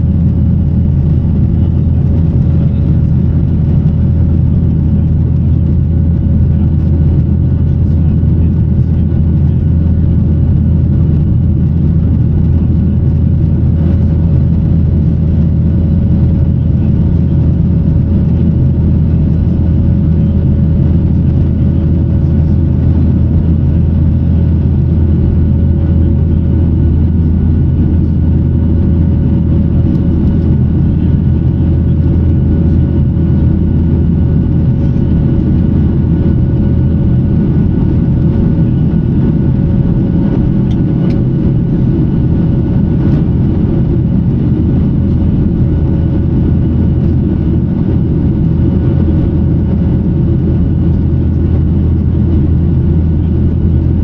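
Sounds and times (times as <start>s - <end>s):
jet engines droning: 0.0s - 54.0s.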